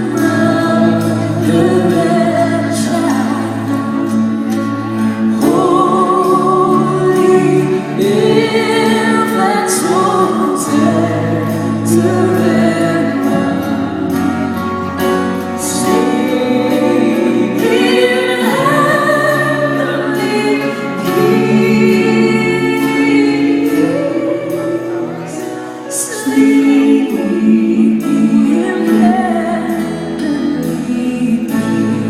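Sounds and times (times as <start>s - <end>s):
person singing: 0.0s - 32.0s
worship band playing: 0.0s - 32.0s.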